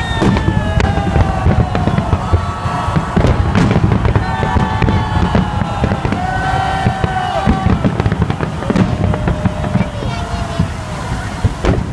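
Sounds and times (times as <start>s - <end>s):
fireworks booming and crackling: 0.0s - 11.9s.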